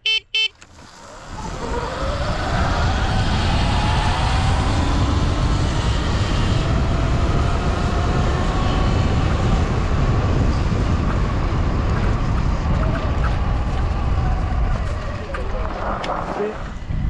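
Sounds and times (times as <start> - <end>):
wind rumble on microphone: 0.9 - 17.0.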